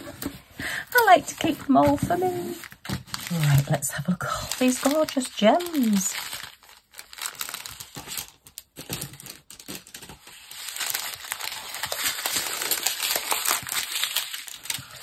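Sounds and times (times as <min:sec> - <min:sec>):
plastic bags crinkling: 0:00.1 - 0:15.0.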